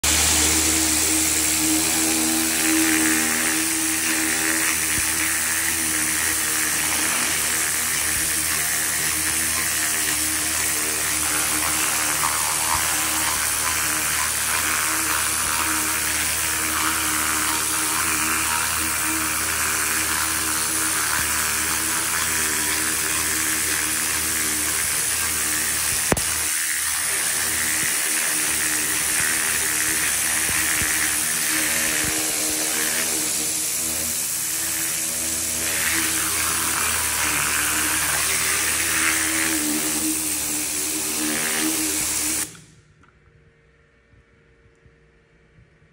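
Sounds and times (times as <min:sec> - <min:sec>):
pressure washer spraying: 0:00.0 - 0:42.7.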